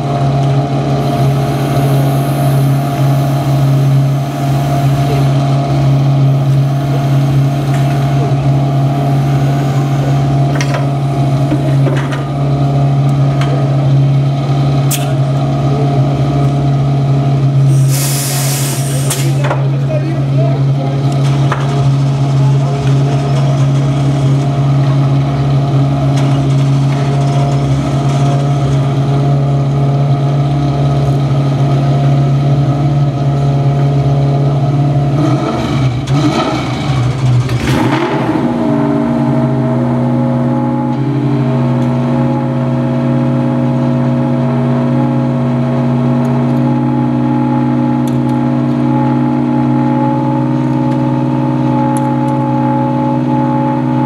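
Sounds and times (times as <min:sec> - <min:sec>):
race car engine idling and revving: 0:00.0 - 0:54.0.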